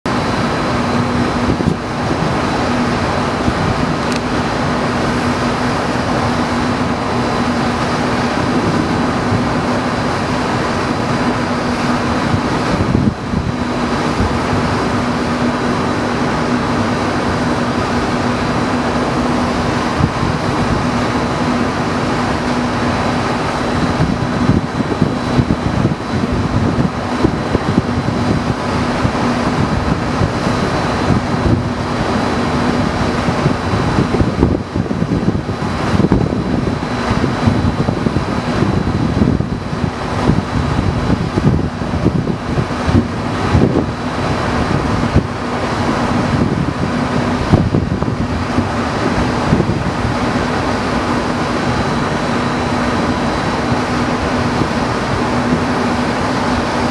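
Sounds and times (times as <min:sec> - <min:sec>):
mechanical hum: 0:00.1 - 0:56.9.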